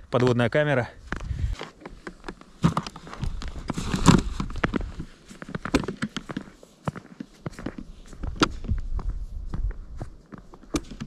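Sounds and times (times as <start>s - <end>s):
boot footsteps crunching in snow: 1.1s - 11.0s.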